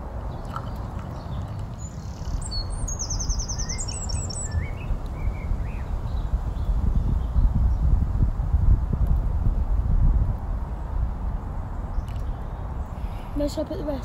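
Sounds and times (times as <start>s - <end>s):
small birds singing: 0.0s - 8.3s, 10.4s - 14.0s
steady low rumble: 0.0s - 14.0s.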